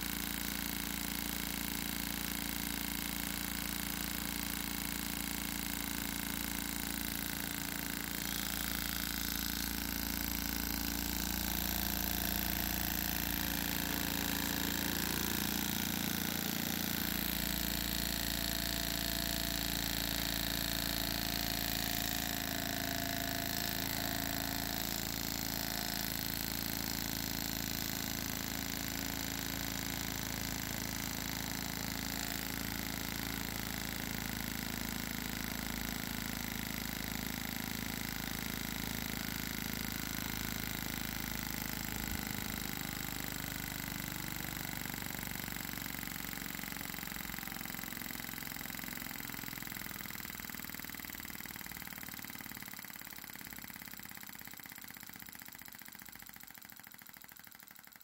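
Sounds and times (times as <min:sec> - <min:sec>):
model engine buzzing: 0:00.0 - 0:58.0.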